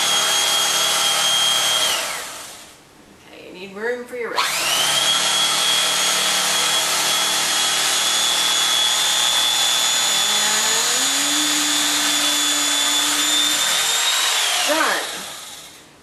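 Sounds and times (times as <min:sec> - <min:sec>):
electric knife whining: 0:00.0 - 0:02.7, 0:04.4 - 0:15.8.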